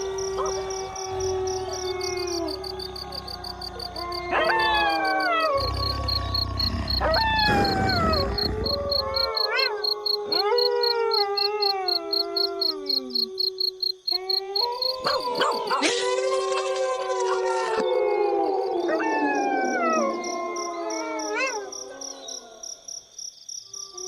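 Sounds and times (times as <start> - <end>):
wolves howling: 0.0 - 13.4, 14.6 - 22.6.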